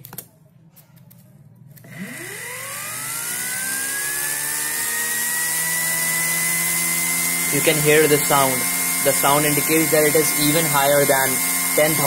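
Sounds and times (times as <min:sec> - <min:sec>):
blender motor whine: 0:01.8 - 0:12.0.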